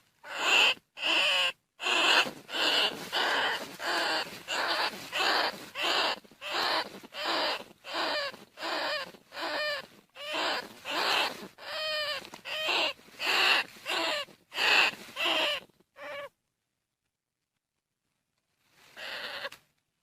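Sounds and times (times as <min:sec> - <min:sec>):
rat squealing: 0:00.2 - 0:16.3, 0:19.0 - 0:19.5.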